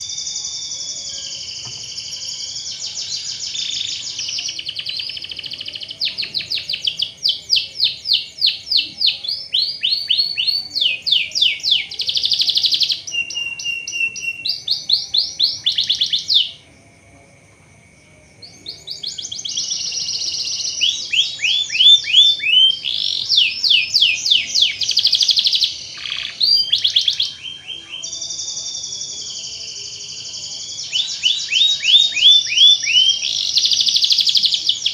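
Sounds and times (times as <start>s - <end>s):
canary singing trills: 0.0s - 16.6s, 18.4s - 34.9s.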